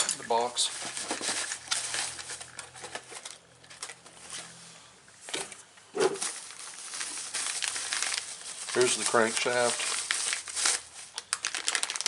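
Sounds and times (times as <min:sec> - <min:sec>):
packaging rustling: 0:00.6 - 0:04.5, 0:06.1 - 0:12.0.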